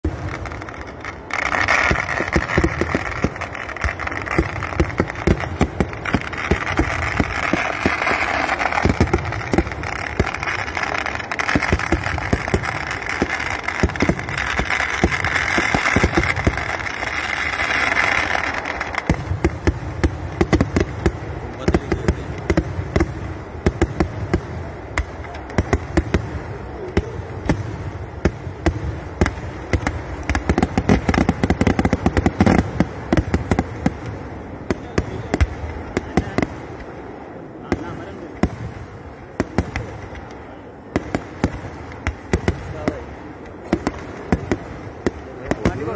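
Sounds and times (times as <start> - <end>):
hissing crackle: 0.0 - 45.9.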